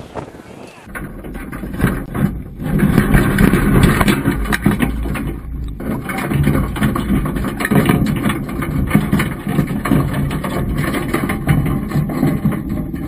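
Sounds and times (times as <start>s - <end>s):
underwater knocks and clicks: 0.9s - 13.0s.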